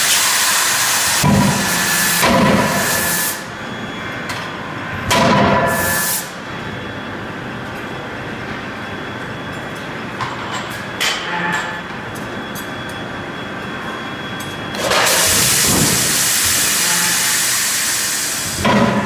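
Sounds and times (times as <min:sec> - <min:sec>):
machine running steadily: 0:00.0 - 0:19.0.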